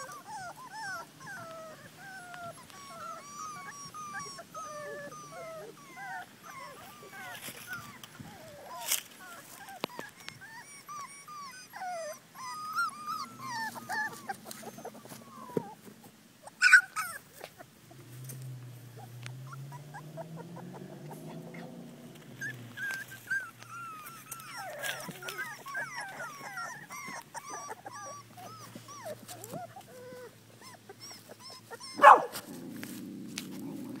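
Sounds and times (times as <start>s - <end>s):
puppies whining and whimpering: 0.0s - 17.7s, 18.9s - 34.0s.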